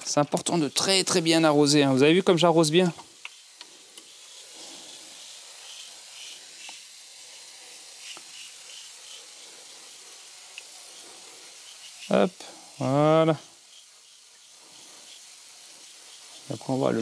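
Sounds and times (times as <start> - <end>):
water hissing into compost: 0.0 - 17.0.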